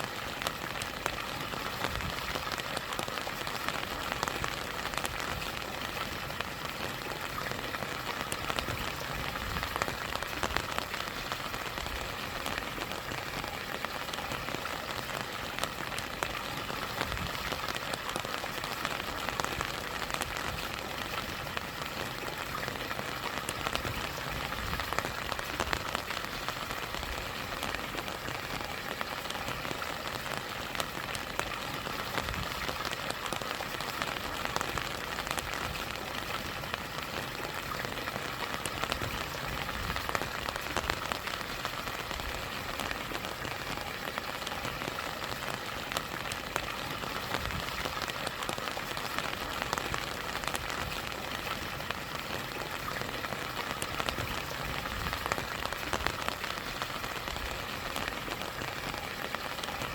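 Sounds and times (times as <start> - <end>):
rain falling: 0.0 - 59.9
stream and small waterfall: 0.0 - 59.9.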